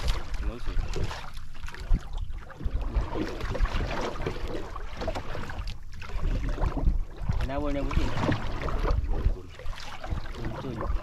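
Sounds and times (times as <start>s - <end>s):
water lapping against hull: 0.0s - 11.0s
wind buffeting microphone: 0.0s - 11.0s.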